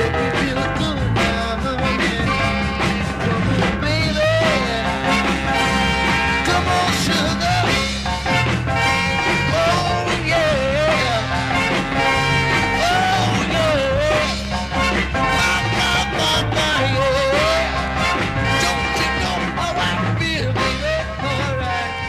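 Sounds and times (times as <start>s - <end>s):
soul record with full band: 0.0s - 22.0s.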